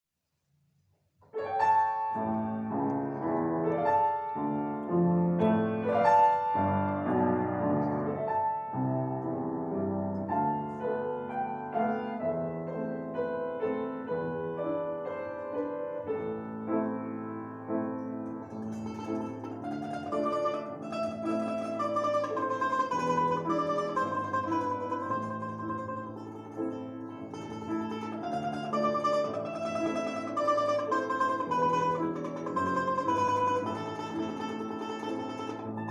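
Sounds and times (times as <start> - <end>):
piano accompaniment: 1.2 - 35.9
plucked string folk melody: 1.4 - 35.9.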